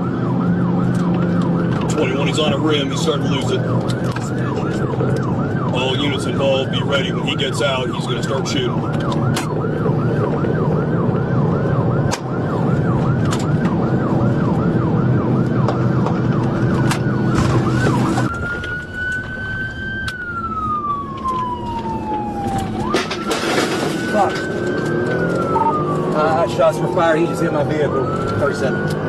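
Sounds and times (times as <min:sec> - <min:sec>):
car engine and road noise: 0:00.0 - 0:29.0
police siren: 0:00.0 - 0:29.0.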